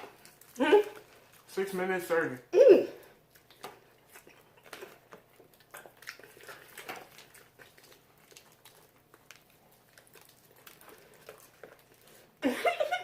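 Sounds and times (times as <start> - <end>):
crunching fried chicken: 0.0 - 2.0, 3.0 - 13.0.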